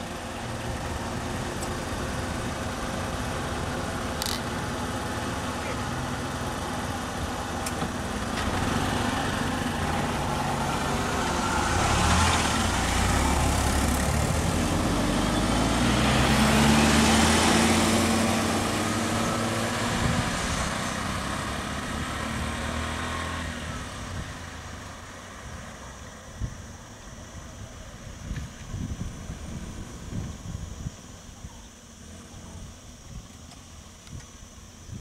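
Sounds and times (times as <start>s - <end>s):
vehicle engines running: 0.0s - 31.1s
vehicles passing close: 0.0s - 34.8s.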